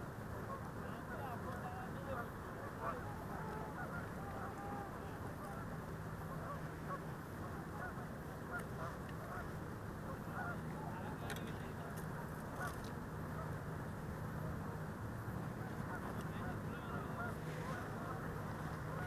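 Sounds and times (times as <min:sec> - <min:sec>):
low steady hum: 0:00.0 - 0:19.0
flock of birds honking: 0:00.4 - 0:13.6, 0:15.4 - 0:19.0.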